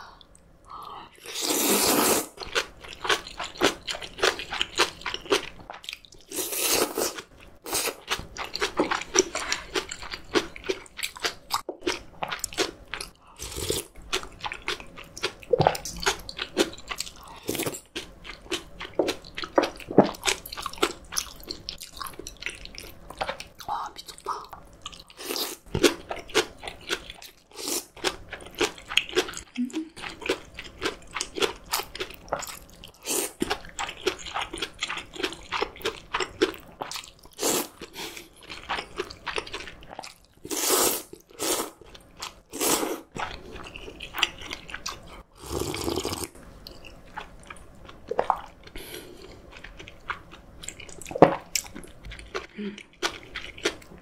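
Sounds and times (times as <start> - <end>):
noodles slurped and chewed: 1.2 - 54.0.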